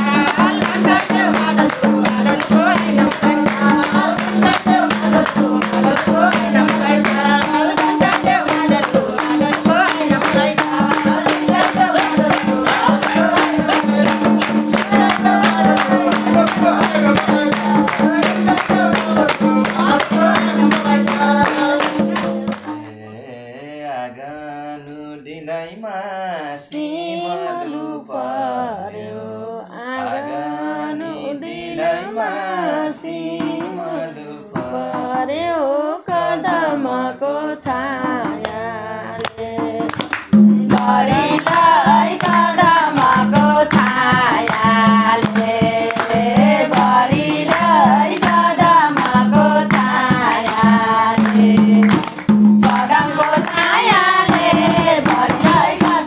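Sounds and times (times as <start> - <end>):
hand drum beat: 0.0 - 23.0, 31.7 - 36.8, 37.6 - 56.0
people singing folk song: 0.0 - 56.0.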